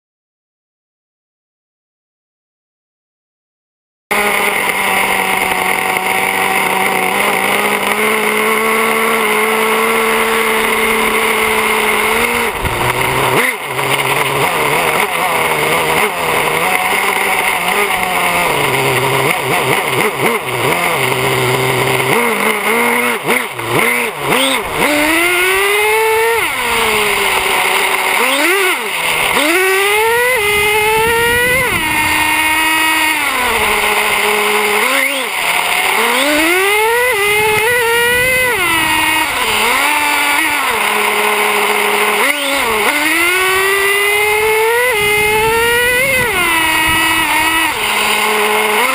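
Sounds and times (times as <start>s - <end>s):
model truck engine revving: 4.1s - 48.9s.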